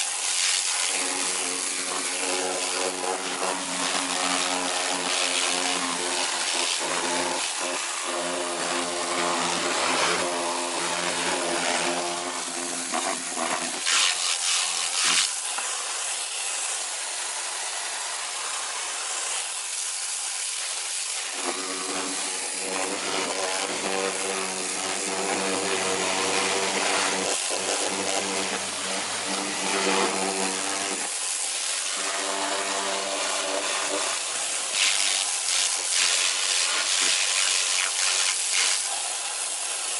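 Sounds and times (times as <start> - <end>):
pressure washer pump hum: 0.0 - 39.9
water jet hissing on sink: 0.0 - 39.9.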